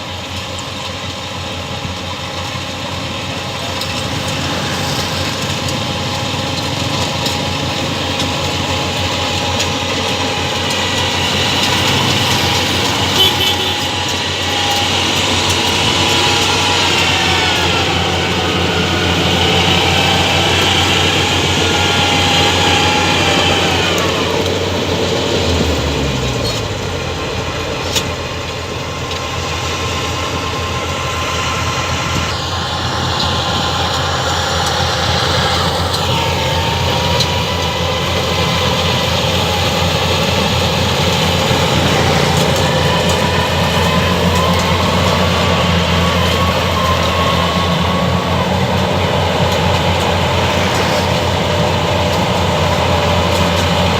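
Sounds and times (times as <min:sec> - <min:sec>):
combine harvester drone: 0:00.0 - 0:53.9
high machine whine: 0:00.0 - 0:53.9.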